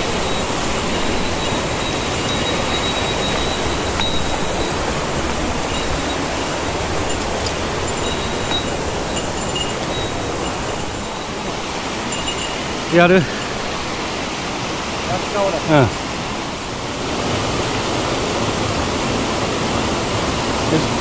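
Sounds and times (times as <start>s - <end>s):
stream rushing over boulders: 0.0s - 21.0s.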